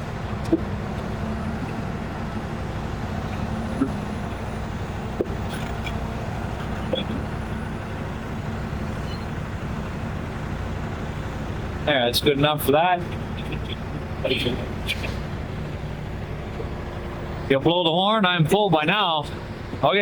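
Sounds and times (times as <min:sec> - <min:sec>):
heavy diesel equipment drone: 0:00.0 - 0:20.0.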